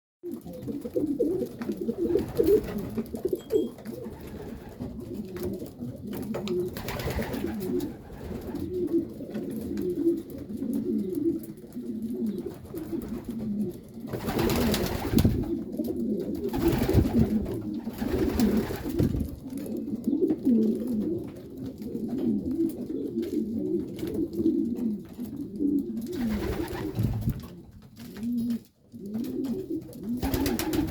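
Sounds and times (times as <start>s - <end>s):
pigeons cooing: 0.3s - 30.9s.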